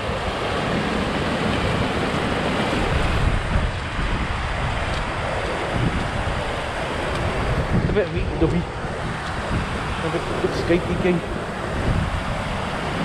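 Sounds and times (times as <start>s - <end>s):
falling water: 0.0s - 13.0s
wind buffeting the microphone: 0.0s - 13.0s.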